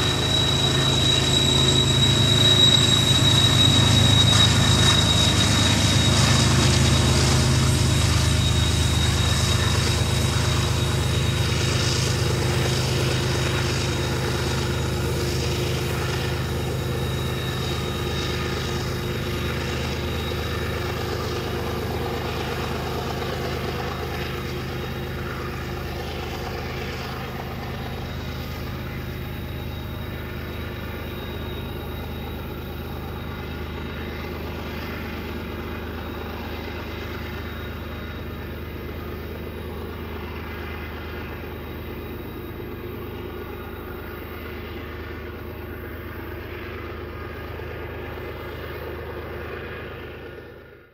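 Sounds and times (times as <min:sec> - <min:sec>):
diesel locomotive engine drone: 0:00.0 - 0:50.9
thin high whine: 0:00.0 - 0:50.9.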